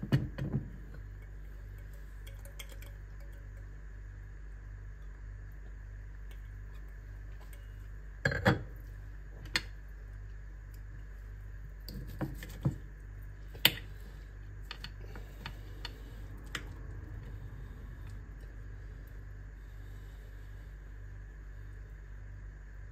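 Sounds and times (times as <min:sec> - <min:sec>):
low hum: 0:00.0 - 0:22.9.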